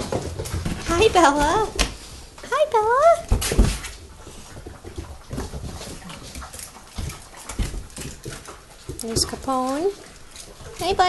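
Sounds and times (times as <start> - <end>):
puppy paws clicking on wooden floor: 0.0 - 11.0.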